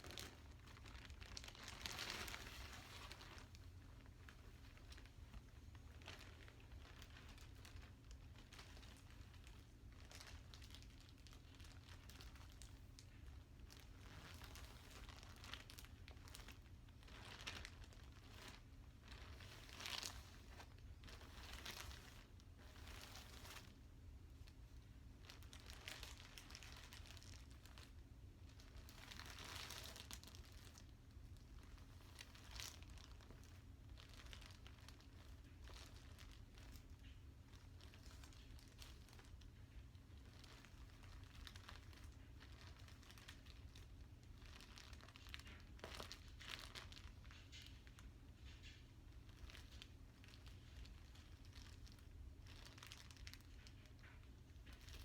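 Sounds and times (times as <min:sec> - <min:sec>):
plastic packaging crinkling: 0:00.0 - 0:55.0.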